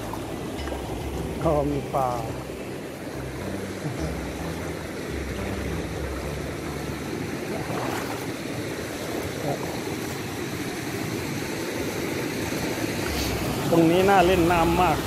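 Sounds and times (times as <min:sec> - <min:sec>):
stream flowing over stones: 0:00.0 - 0:15.0.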